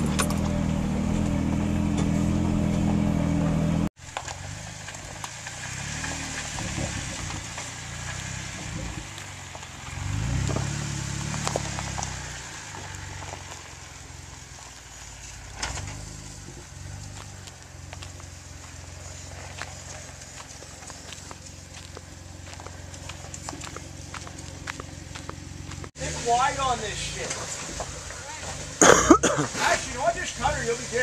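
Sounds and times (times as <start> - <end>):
engine running at low revs: 0.0 - 28.8.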